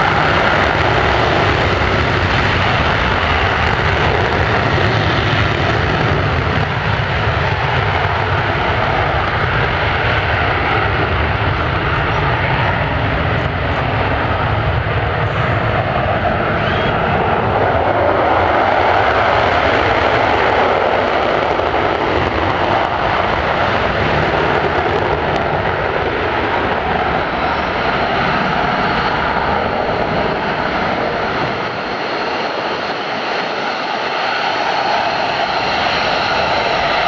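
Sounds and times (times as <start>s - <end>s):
jet afterburner takeoff roar: 0.0s - 37.0s.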